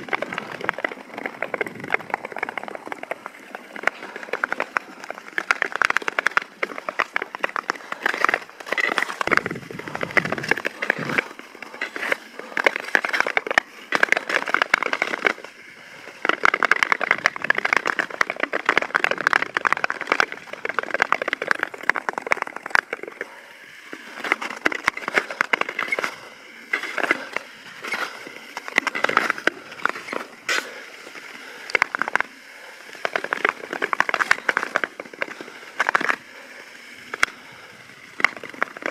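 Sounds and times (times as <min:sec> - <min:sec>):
skate blades scraping ice: 0:00.0 - 0:38.9.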